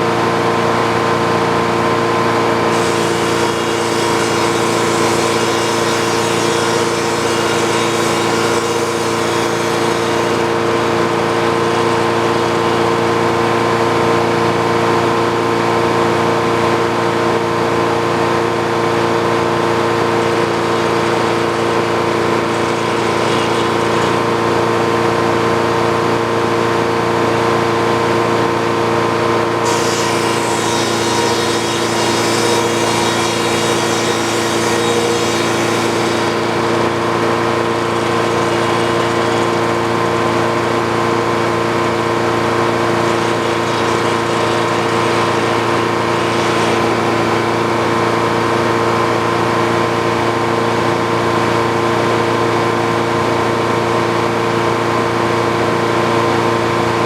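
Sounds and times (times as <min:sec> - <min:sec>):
sawmill drone: 0:00.0 - 0:57.0.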